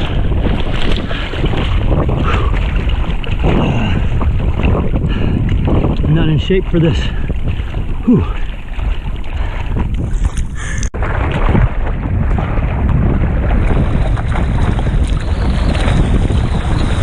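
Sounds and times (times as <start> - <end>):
ocean water sloshing and splashing: 0.0 - 17.0
wind buffeting microphone: 0.0 - 17.0.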